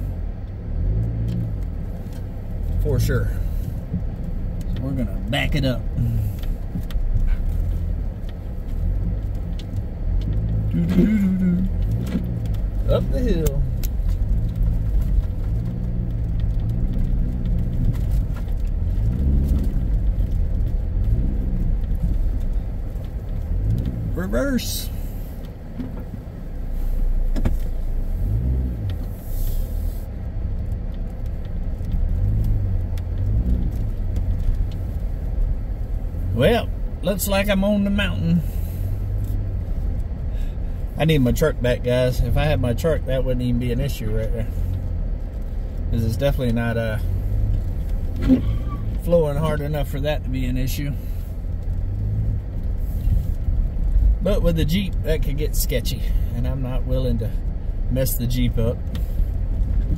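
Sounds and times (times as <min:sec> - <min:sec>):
car engine running: 0:00.0 - 0:59.9
tyres on muddy dirt: 0:00.0 - 0:59.9.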